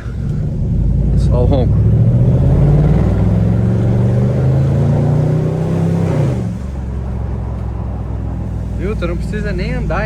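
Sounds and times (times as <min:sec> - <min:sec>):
car exhaust rumbling at low speed: 0:00.0 - 0:10.0.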